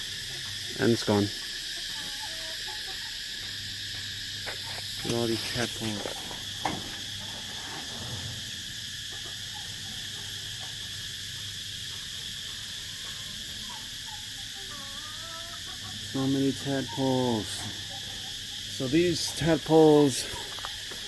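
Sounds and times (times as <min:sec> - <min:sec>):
insects chirping: 0:00.0 - 0:21.0.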